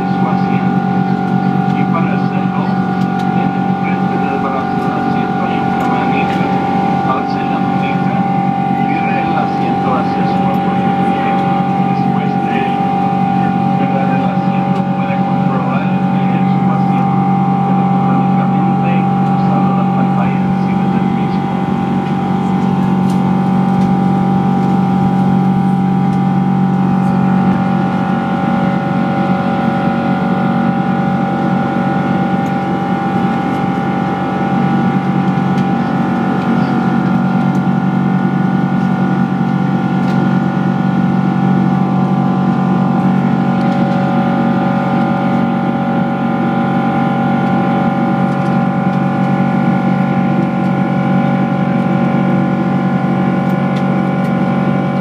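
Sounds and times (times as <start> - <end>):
airliner cabin engine drone: 0.0 - 55.0
whining engine tones: 0.0 - 55.0.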